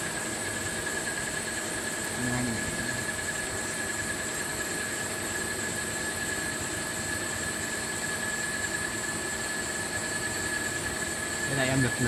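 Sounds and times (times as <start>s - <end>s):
machine whine: 0.0s - 12.0s.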